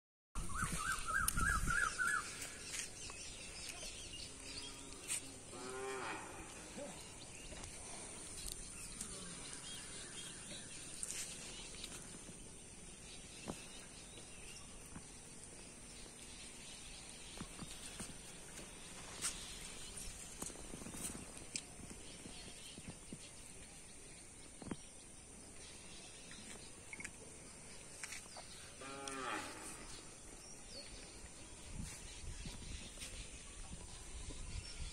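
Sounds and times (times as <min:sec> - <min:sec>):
faint outdoor background: 0:00.4 - 0:34.9.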